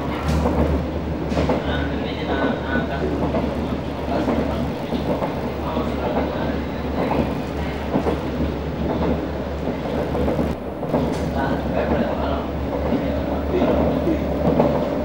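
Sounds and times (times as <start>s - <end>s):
train rolling noise: 0.0s - 15.0s.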